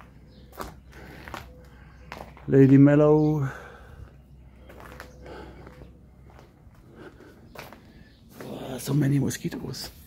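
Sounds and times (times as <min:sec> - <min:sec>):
footsteps on pavement: 0:00.0 - 0:10.0.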